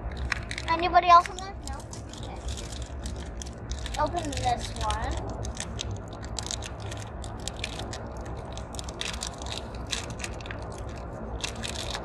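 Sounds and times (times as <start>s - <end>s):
plastic packet crackling: 0.0s - 12.0s.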